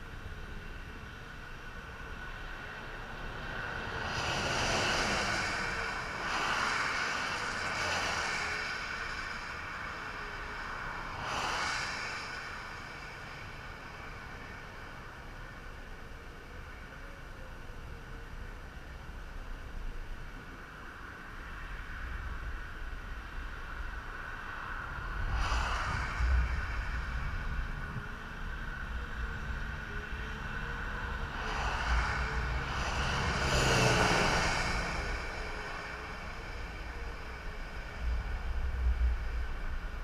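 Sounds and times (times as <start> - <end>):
low wind rumble on microphone: 0.0 - 40.0
vehicles passing on highway: 0.0 - 40.0.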